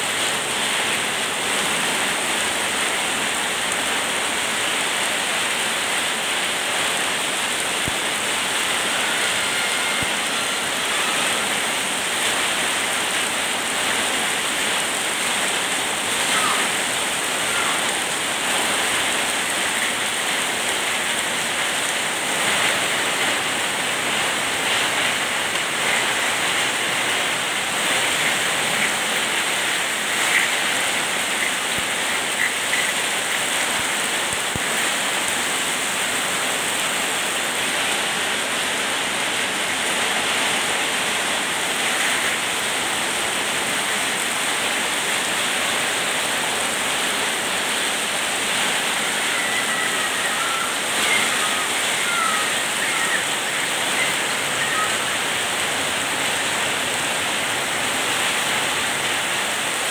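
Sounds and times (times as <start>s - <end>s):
heavy rain splashing into water: 0.0s - 59.9s.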